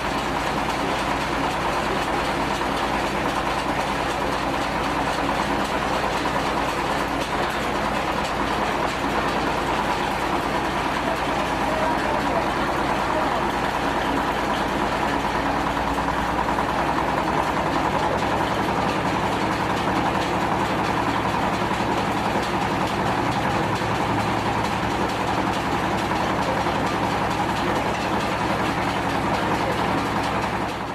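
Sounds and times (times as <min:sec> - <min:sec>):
stone crusher machine running: 0:00.0 - 0:30.9.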